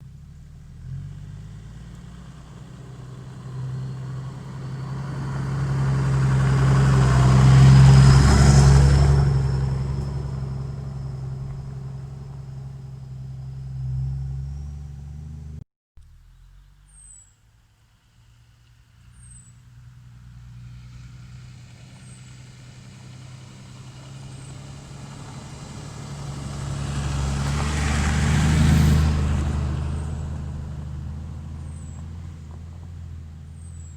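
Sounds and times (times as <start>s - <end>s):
diesel engine exhaust rumble: 0.0s - 33.9s.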